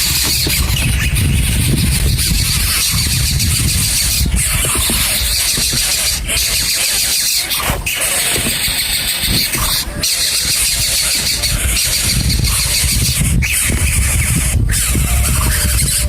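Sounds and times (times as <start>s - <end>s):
nestling birds begging: 0.0s - 16.0s.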